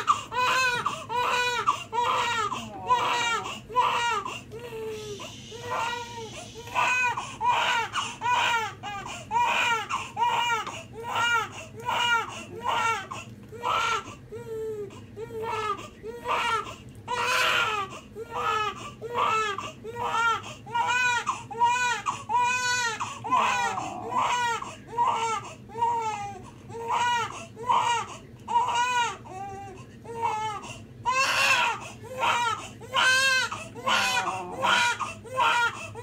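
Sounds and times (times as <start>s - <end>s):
infant crying: 0.0s - 36.0s.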